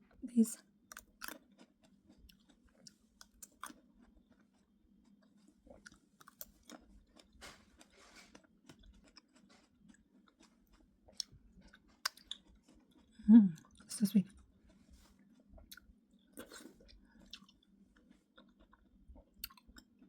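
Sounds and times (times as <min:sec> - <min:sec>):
person chewing fruit: 0:00.8 - 0:20.0.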